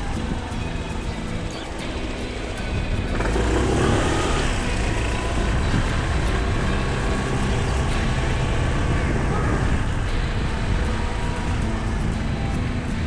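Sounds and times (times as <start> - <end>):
road and wind noise: 0.0 - 13.0
scooter engine running: 0.0 - 13.0.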